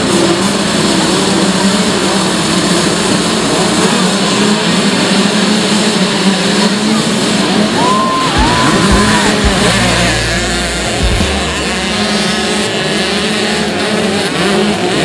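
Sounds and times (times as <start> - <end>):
dirt bikes revving: 0.0 - 15.0.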